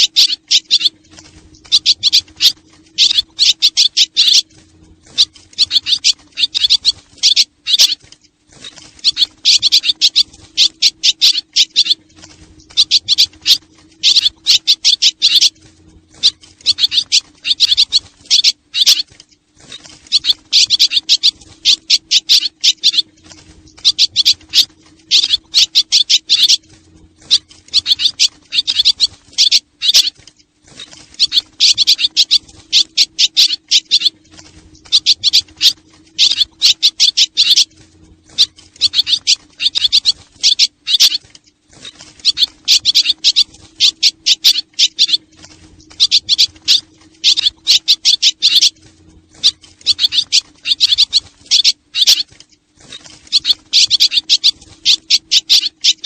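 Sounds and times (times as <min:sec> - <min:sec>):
swallows twittering: 0:00.0 - 0:56.0.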